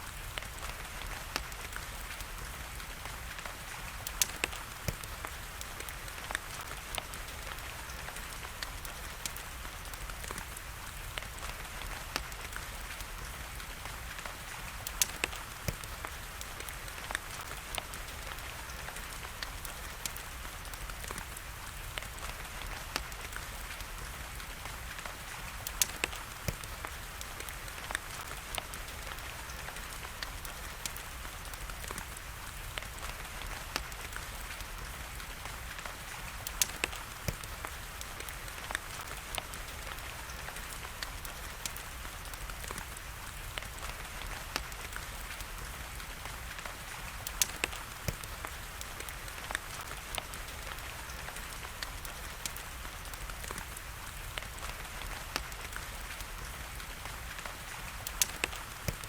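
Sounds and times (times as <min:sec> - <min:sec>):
rain hiss: 0:00.0 - 0:59.0
wood fire crackling: 0:00.0 - 0:59.0.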